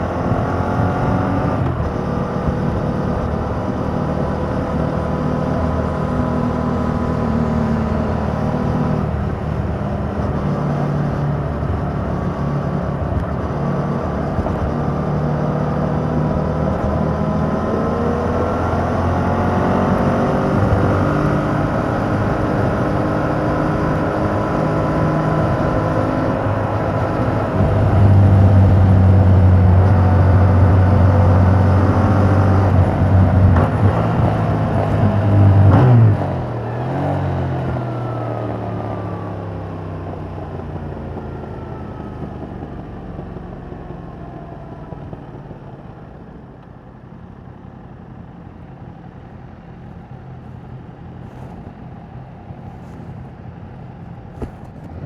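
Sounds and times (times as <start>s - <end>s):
motorcycle engine under throttle: 0.0s - 55.0s.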